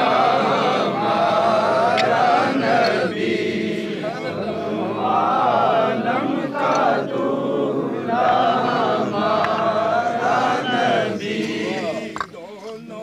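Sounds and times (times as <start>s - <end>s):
men chanting religious recitation: 0.0s - 13.0s.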